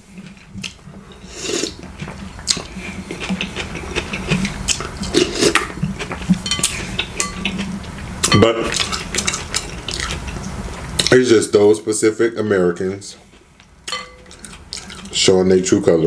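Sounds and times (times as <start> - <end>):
chewing food: 0.1 - 11.1, 13.2 - 15.2.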